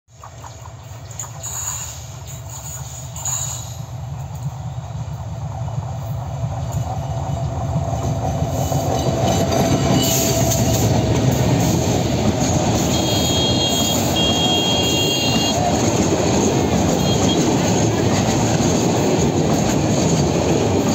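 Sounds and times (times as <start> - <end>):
diesel locomotive engine rumble: 0.1 - 20.9
freight wagons rolling past: 0.3 - 20.9.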